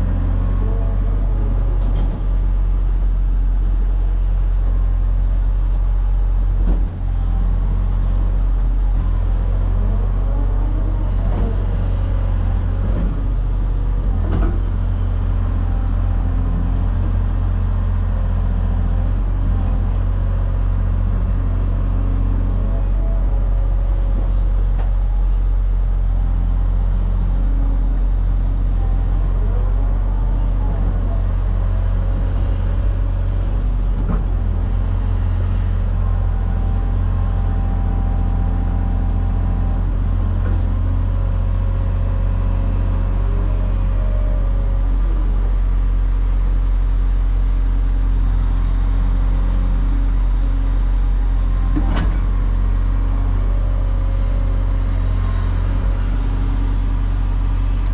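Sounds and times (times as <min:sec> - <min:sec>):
heavy diesel engine droning: 0:00.0 - 0:57.9.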